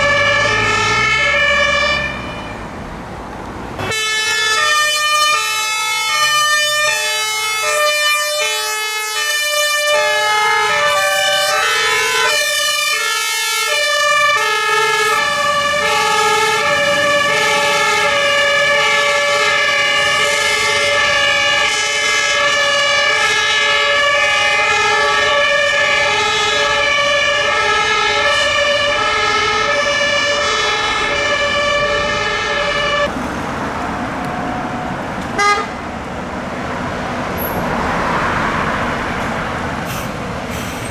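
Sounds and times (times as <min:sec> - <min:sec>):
vehicle engine noise: 0:00.0 - 0:07.8, 0:10.0 - 0:22.7, 0:25.4 - 0:40.9
fire engine two-tone sirens: 0:00.0 - 0:40.9.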